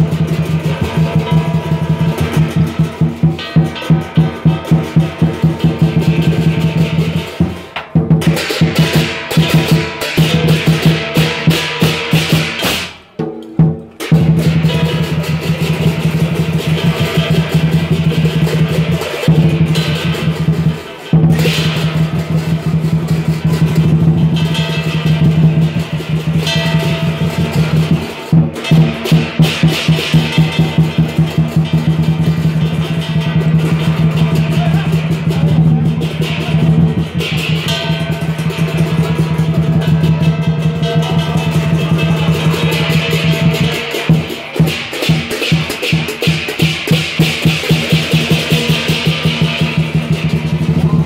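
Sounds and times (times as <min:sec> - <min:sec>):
cymbals and gong clashing: 0:00.0 - 0:51.0
large drum beaten fast: 0:00.0 - 0:51.0.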